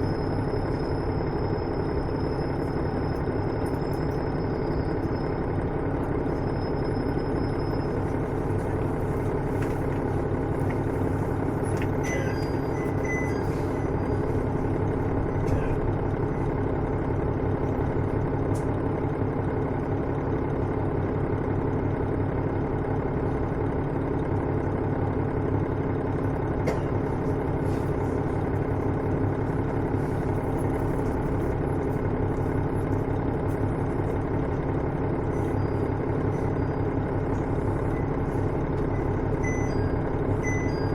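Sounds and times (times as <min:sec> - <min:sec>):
railcar diesel engine running: 0:00.0 - 0:40.9.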